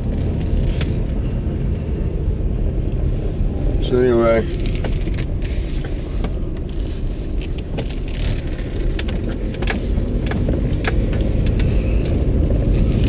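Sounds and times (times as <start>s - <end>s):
sharp clicks and rattles: 0.0s - 1.3s, 3.8s - 13.0s
road and engine rumble in car: 0.0s - 13.0s.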